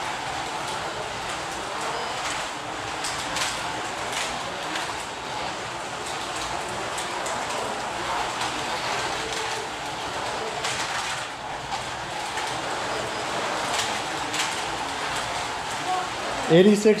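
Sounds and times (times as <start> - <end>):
toy cars rattling over track: 0.0 - 17.0.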